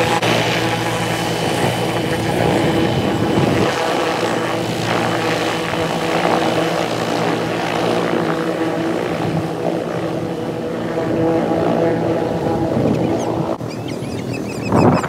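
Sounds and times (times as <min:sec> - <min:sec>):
helicopter rotor and engine hum: 0:00.0 - 0:15.0.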